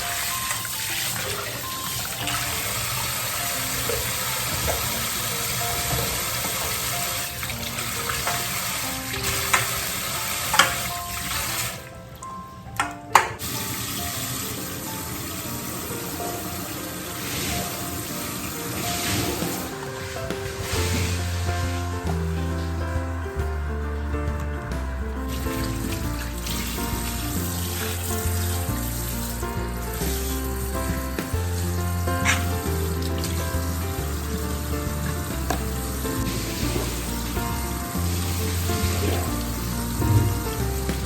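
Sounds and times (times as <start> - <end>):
tap water running into sink: 0.0 - 12.0, 12.8 - 23.2, 25.3 - 41.0.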